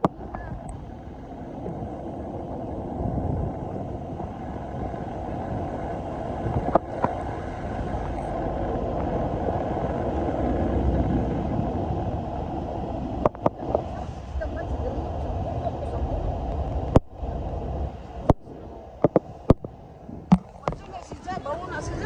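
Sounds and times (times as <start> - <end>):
car driving road noise: 0.0 - 22.0.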